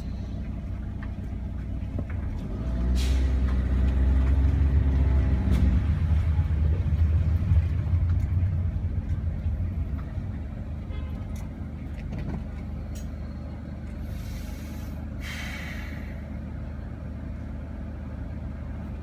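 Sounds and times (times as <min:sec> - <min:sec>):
pitched hum: 0:00.0 - 0:19.0
road and engine rumble: 0:00.0 - 0:19.0.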